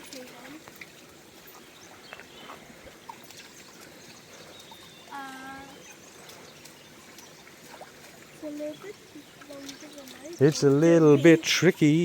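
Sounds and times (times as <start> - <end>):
brook trickling: 0.0 - 12.0.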